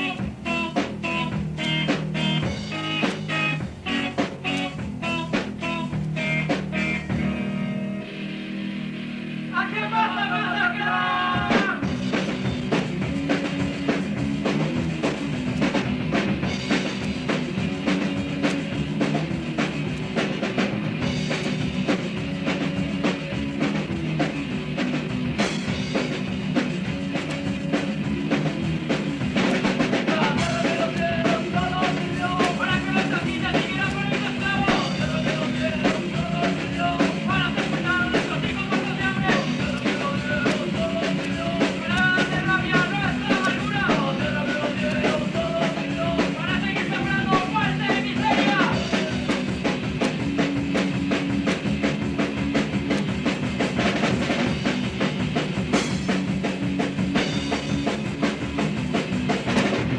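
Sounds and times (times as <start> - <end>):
driving drum kit: 0.0 - 59.9
punk rock band playing: 0.0 - 59.9.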